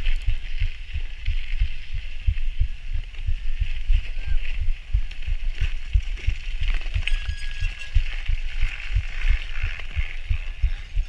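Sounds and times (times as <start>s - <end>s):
bicycle tyres on snow: 0.0s - 11.0s.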